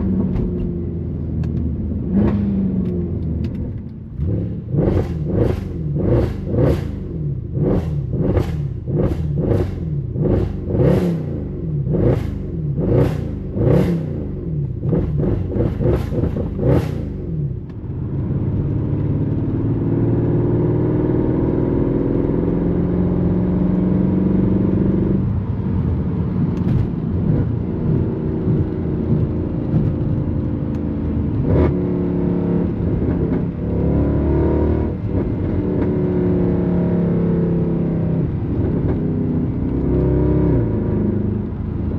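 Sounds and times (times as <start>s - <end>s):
car engine revving: 0.0s - 41.8s.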